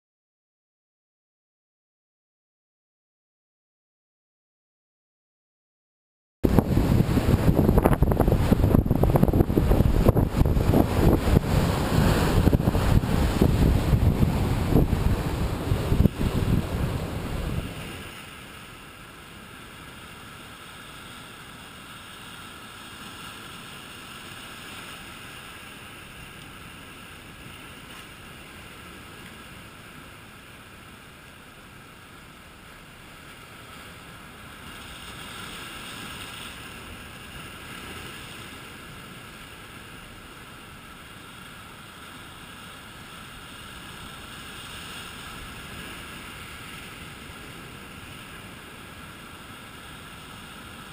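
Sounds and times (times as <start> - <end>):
surf breaking over rocks: 6.4 - 50.9.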